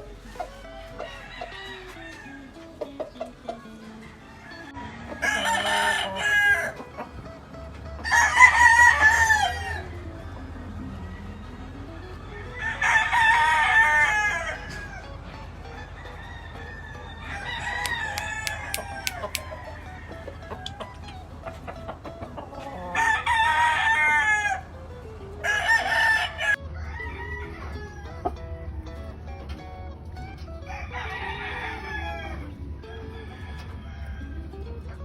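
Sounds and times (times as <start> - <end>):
roosters crowing: 0.0 - 35.0.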